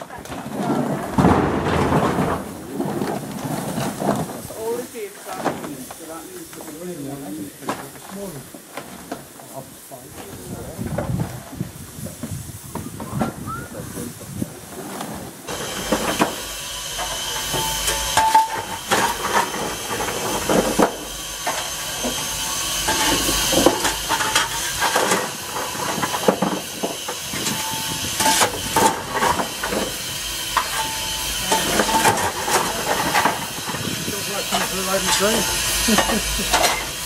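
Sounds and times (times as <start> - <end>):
coal clunking and scraping: 0.0 - 13.4, 14.6 - 37.0
steam hissing: 0.0 - 37.0.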